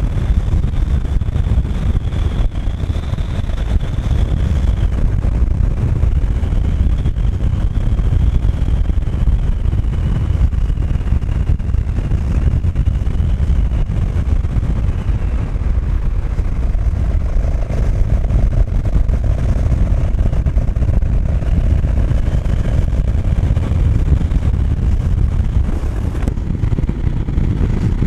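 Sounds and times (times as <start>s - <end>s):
motorcycle engine cruising: 0.0s - 28.0s
wind rush on microphone: 0.0s - 28.0s.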